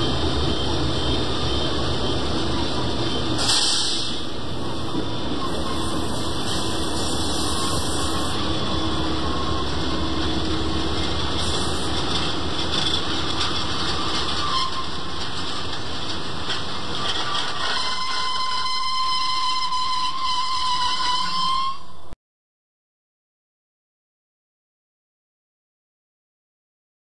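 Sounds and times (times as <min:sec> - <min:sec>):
diesel locomotive engine rumbling: 0:00.0 - 0:22.2.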